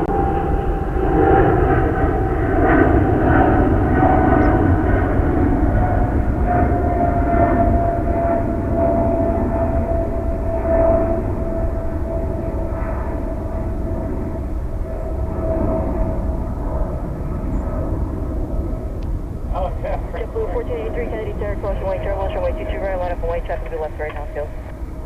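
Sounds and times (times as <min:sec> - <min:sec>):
falling engine whine: 0:00.0 - 0:16.6, 0:19.0 - 0:25.0
jet engines running: 0:00.0 - 0:25.0.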